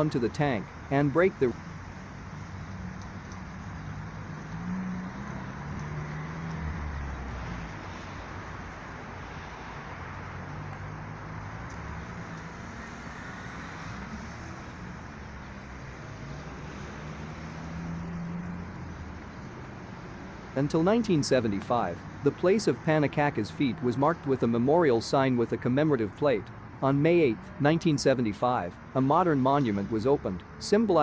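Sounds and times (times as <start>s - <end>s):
rumble of passing cars: 0.0s - 31.0s.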